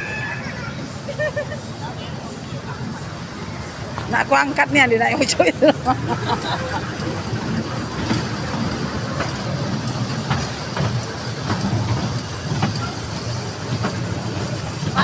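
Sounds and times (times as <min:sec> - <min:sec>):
ride train rumbling: 0:00.0 - 0:15.0.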